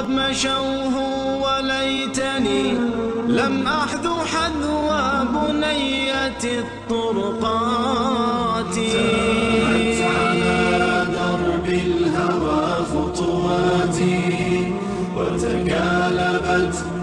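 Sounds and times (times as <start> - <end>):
vocal drone: 0.0 - 17.0
voices singing a melody: 0.0 - 17.0.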